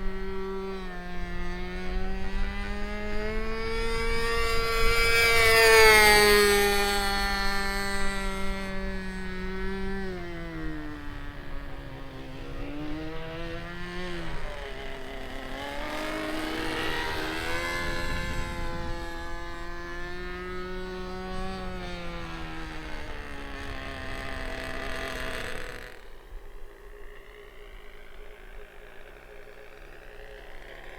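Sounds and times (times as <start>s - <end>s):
model plane engine running: 0.0s - 30.9s.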